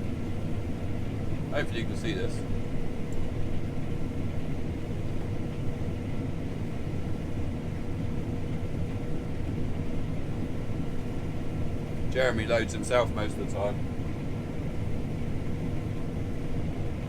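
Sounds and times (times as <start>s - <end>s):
combine harvester rumble: 0.0s - 17.0s
faint steady whine: 0.0s - 17.0s.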